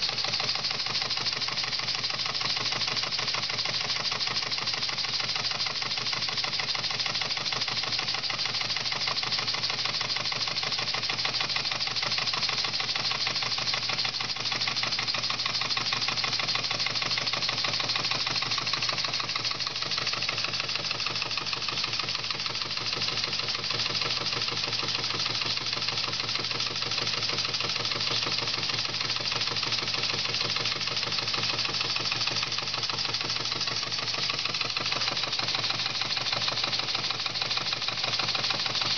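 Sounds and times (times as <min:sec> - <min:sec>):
steam engine chuffing: 0:00.0 - 0:38.9.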